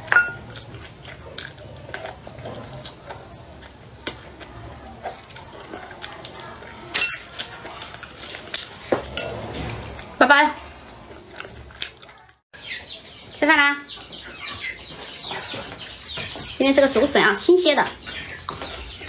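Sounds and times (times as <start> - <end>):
chewing and gnawing: 0.0 - 13.3, 13.9 - 19.0.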